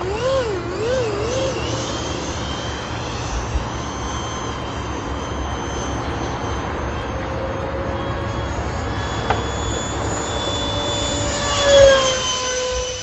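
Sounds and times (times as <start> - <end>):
electric ducted fans whining: 0.0 - 13.0.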